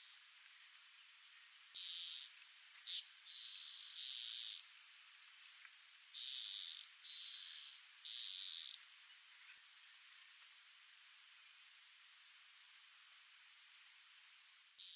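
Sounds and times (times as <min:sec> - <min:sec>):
crickets and insects chirping: 0:00.0 - 0:14.9.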